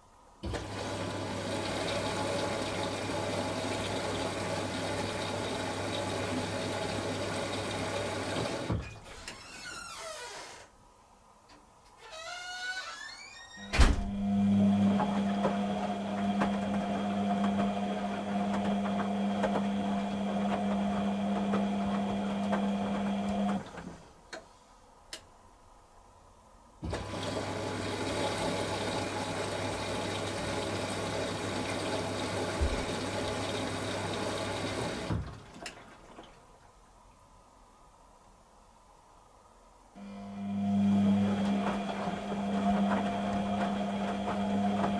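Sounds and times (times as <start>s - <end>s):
washing machine hum: 0.1s - 10.0s, 13.0s - 24.3s, 26.0s - 44.9s.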